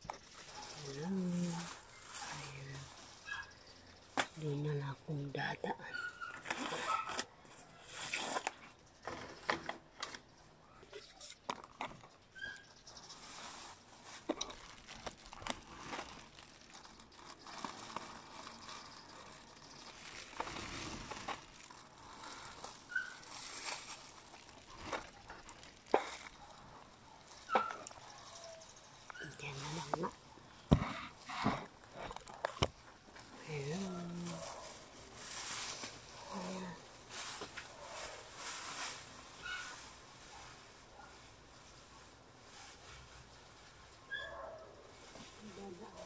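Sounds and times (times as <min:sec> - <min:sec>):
rustling from movement: 0:00.0 - 0:05.0, 0:06.0 - 0:46.0.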